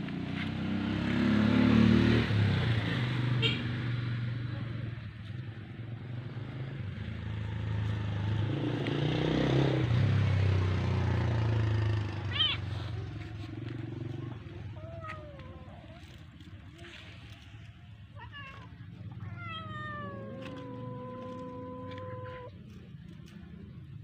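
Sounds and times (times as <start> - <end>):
vehicle engine running: 4.5 - 24.0.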